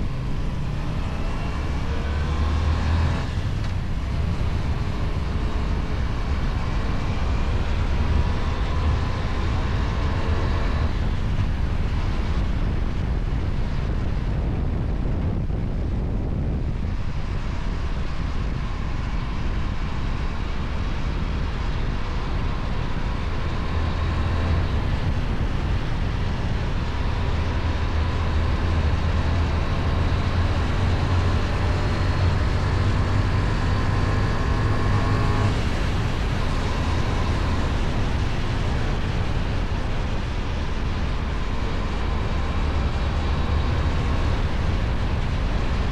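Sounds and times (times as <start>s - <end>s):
motorcycle engine drone: 0.0s - 45.9s
wind on microphone: 0.0s - 45.9s.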